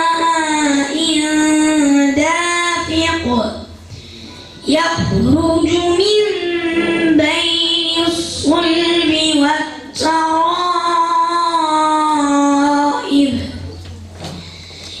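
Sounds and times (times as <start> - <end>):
boy chanting melodically: 0.0 - 13.7.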